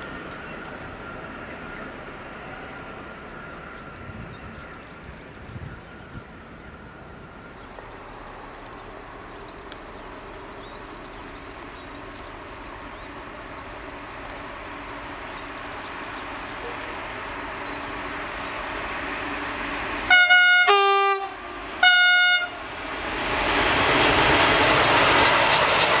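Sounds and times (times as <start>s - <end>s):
distant train rumble: 0.0s - 26.0s.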